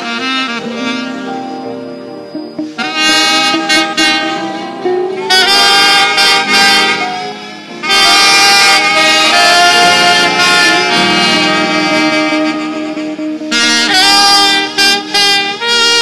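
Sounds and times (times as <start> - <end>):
alto saxophones playing melody: 0.0 - 16.0.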